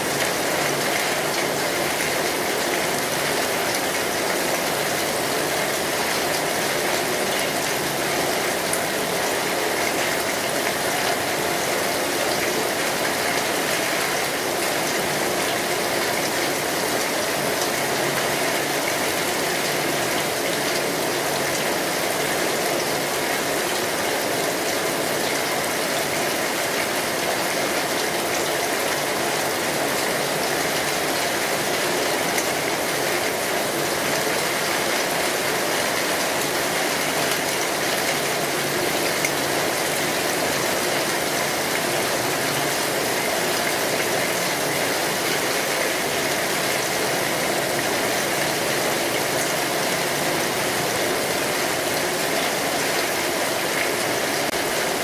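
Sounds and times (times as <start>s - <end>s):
steady rain on a street: 0.0s - 55.0s.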